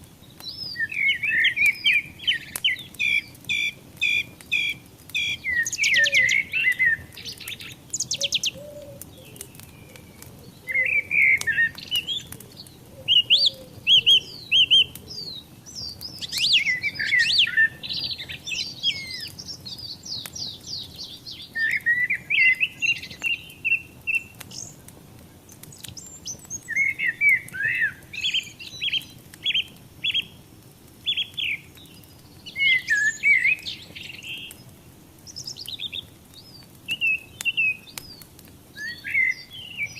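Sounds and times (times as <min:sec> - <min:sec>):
faint background noise: 0:00.0 - 0:39.9
songbirds chirping and singing: 0:00.0 - 0:39.9.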